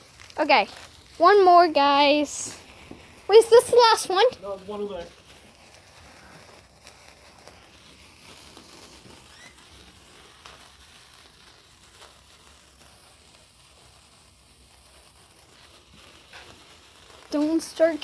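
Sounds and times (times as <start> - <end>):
sparkler fizzing crackle: 0.0 - 18.0.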